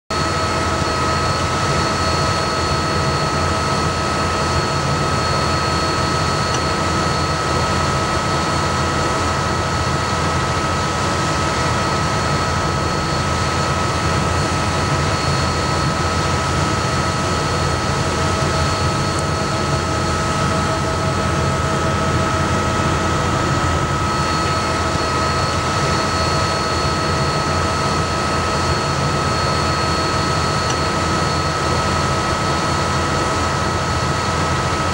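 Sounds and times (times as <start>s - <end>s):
combine harvester running: 0.2s - 34.9s.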